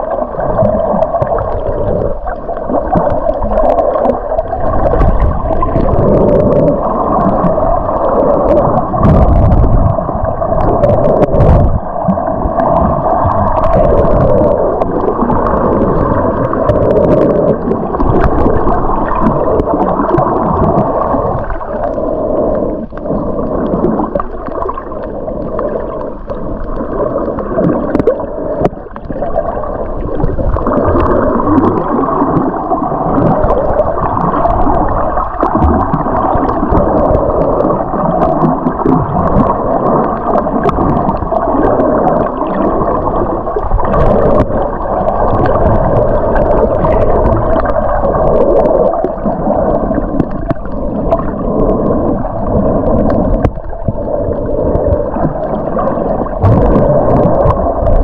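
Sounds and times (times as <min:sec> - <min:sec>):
underwater rushing and gurgling water: 0:00.0 - 0:58.0.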